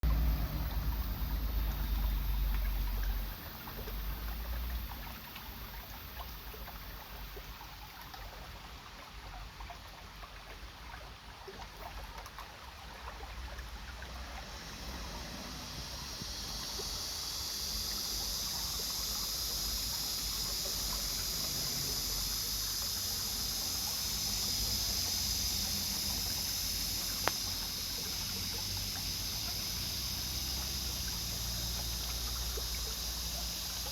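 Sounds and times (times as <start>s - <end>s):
water trickling over rocks: 0.0s - 33.9s.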